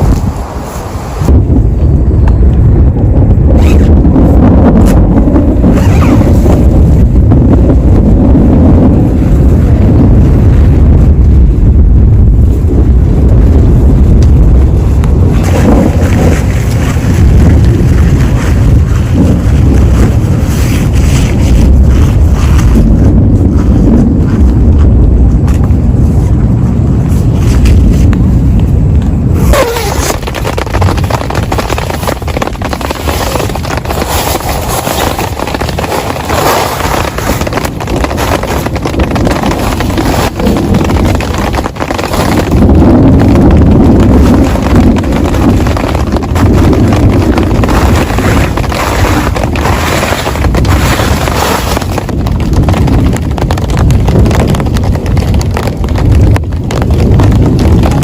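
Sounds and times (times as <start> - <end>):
heavy rain on a tent: 0.0 - 58.0
wind rumble on microphone: 0.0 - 58.0.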